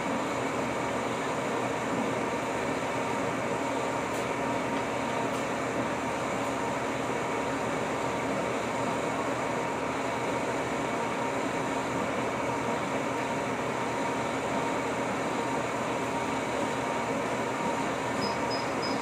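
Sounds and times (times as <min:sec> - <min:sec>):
boring mill humming: 0:00.0 - 0:19.0.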